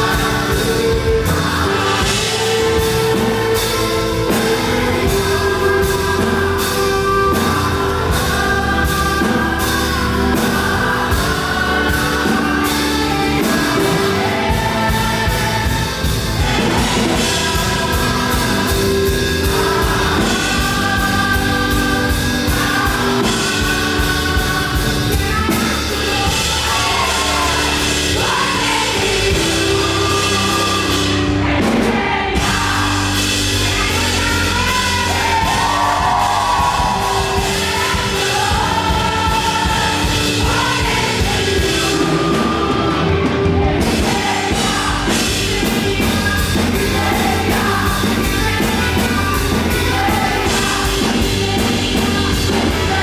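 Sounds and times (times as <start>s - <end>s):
band with drum kit: 0.0s - 53.0s
gospel singers: 0.0s - 53.0s.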